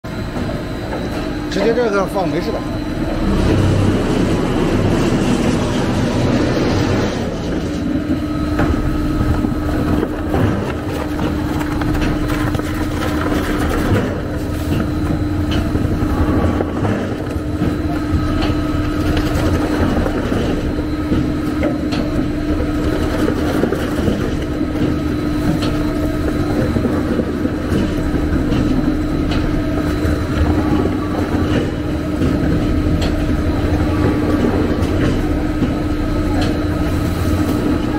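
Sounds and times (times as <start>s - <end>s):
plastic shredder running: 0.1s - 37.9s.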